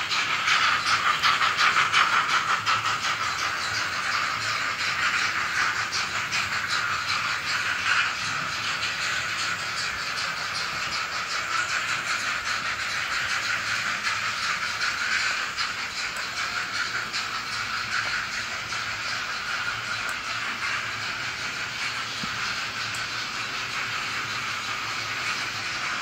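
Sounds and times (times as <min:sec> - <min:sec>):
model train running on track: 0:00.0 - 0:26.0
steam chuffs with hiss: 0:00.0 - 0:26.0.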